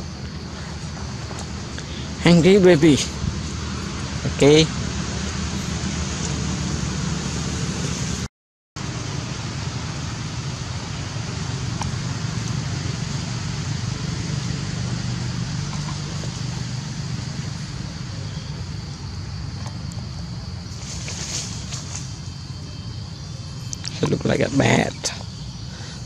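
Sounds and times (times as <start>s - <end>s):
even hiss: 0.0s - 6.4s, 7.2s - 26.0s.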